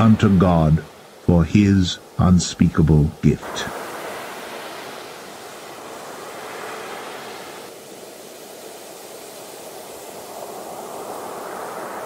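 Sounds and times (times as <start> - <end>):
waves breaking on shore: 0.0 - 12.0.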